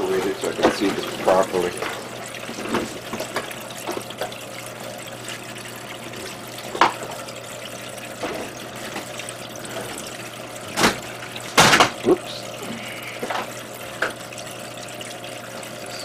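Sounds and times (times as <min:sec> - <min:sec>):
water running down a panel: 0:00.0 - 0:16.0.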